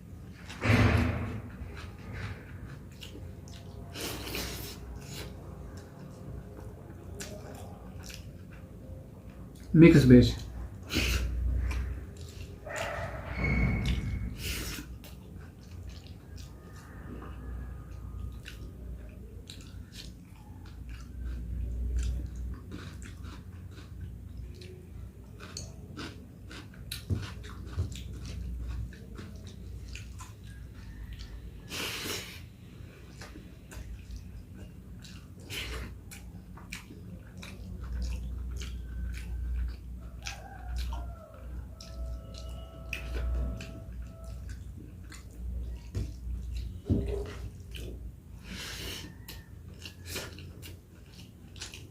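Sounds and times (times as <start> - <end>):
low steady hum: 0.0 - 51.9
person chewing food: 1.3 - 9.7, 10.4 - 51.9.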